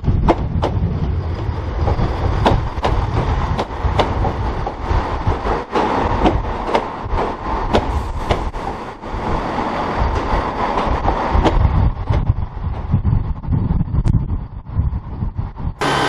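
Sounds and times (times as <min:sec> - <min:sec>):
wheels clicking over rail joints: 0:00.0 - 0:13.5
train rumble and hum: 0:00.0 - 0:16.0.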